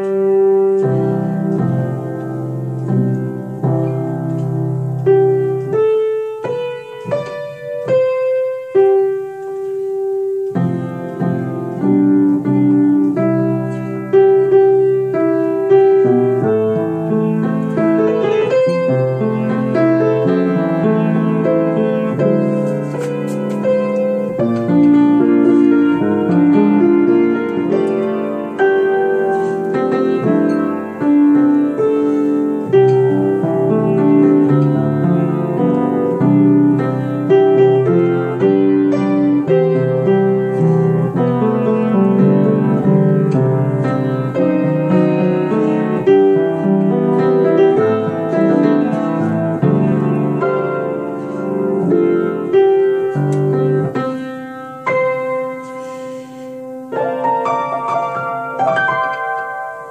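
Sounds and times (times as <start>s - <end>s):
solo grand piano gospel song: 0.0s - 59.9s.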